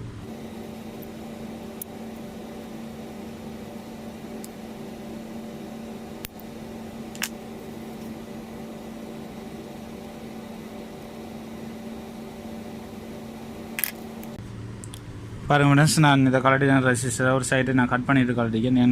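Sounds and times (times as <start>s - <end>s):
appliance electrical hum: 0.0s - 18.9s.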